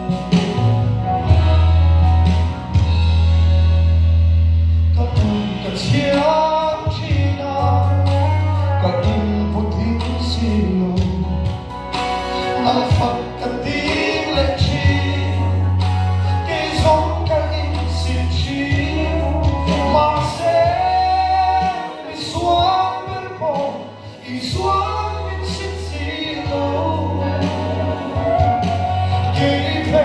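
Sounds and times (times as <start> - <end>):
instrumental accompaniment: 0.0 - 30.0
man singing into a microphone: 4.9 - 30.0.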